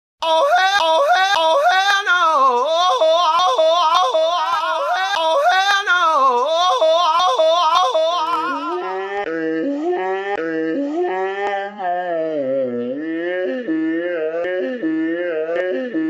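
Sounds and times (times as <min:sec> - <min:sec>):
high voice yodel-like wailing: 0:00.2 - 0:14.6.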